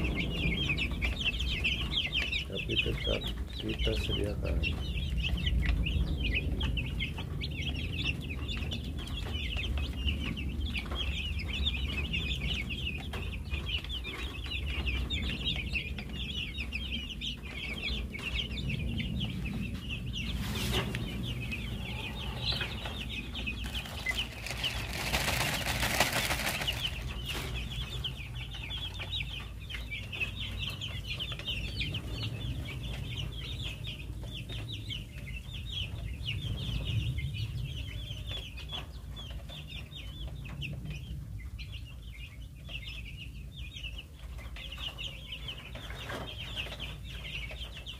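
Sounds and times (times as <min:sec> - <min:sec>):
chicks cheeping: 0:00.0 - 0:47.9.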